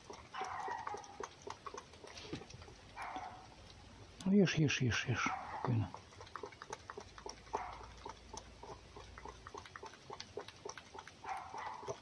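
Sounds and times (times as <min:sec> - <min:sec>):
fox lapping and chewing: 0:00.0 - 0:12.0.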